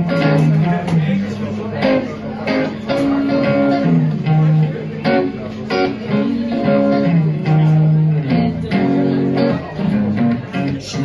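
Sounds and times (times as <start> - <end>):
guitar strumming chords: 0.0 - 11.0.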